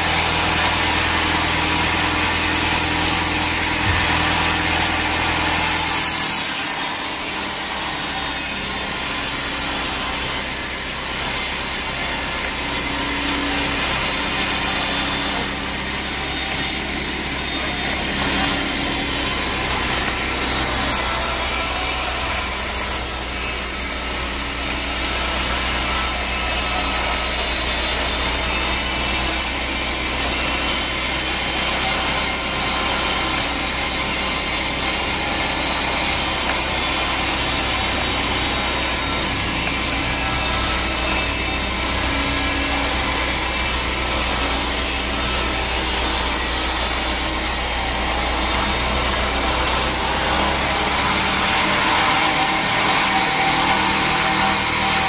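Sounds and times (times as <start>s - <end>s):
saw blade rasping through log: 0.0s - 55.0s.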